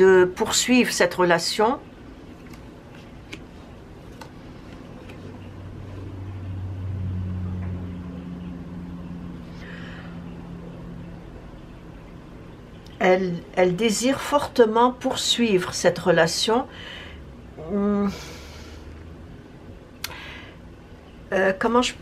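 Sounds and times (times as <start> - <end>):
low motor hum: 1.9 - 14.0, 16.2 - 22.0.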